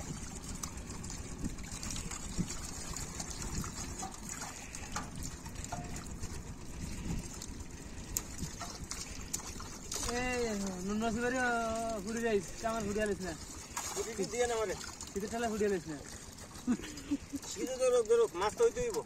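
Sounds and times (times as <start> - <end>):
pond water splashing: 0.0 - 19.0.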